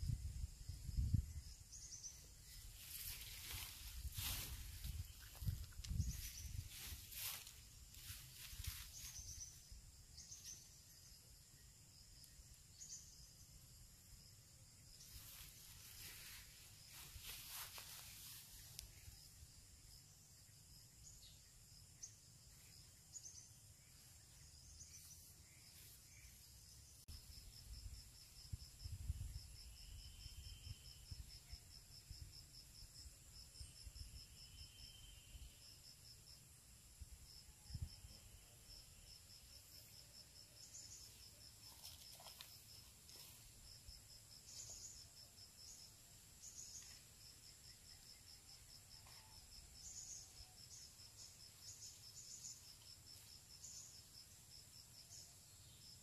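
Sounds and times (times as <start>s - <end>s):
insects droning: 0.0s - 56.0s
pulsing insect call: 0.0s - 56.0s.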